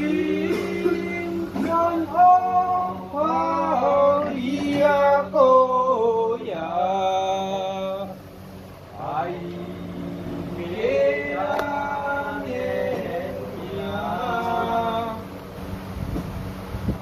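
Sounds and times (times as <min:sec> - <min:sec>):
person singing slow chant: 0:00.0 - 0:08.2, 0:08.9 - 0:15.4
steady low hum: 0:00.0 - 0:17.0.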